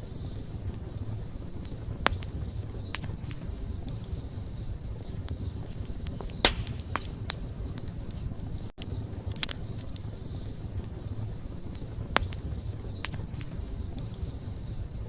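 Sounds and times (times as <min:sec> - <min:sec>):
campfire crackling and popping: 0:00.1 - 0:14.8.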